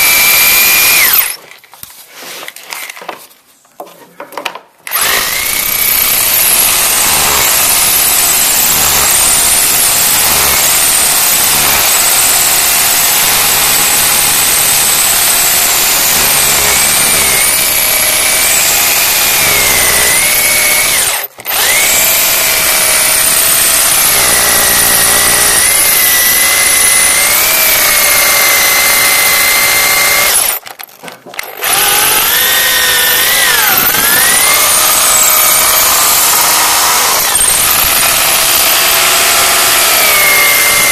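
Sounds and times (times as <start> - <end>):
power drill boring into concrete: 0.0 - 1.4, 4.9 - 30.8, 31.4 - 40.9.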